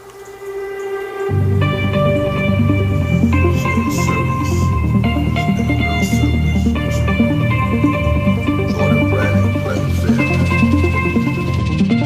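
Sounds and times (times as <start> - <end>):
electronic music with bass and beat: 1.3 - 12.0.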